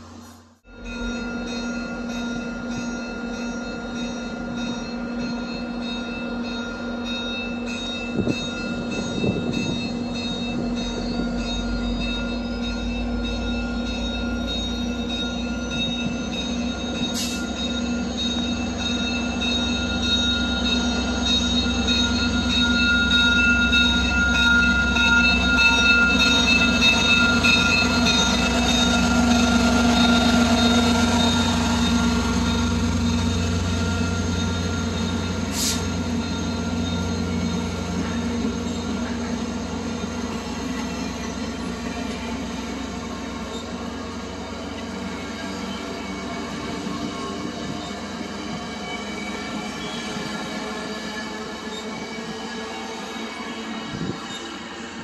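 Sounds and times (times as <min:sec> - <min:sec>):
train whining tones: 0:00.0 - 0:55.0.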